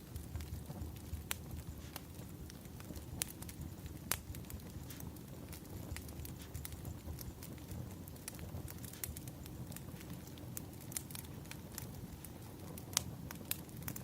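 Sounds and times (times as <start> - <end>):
flames rumbling: 0.0 - 14.0
wood fire crackling: 0.0 - 14.0.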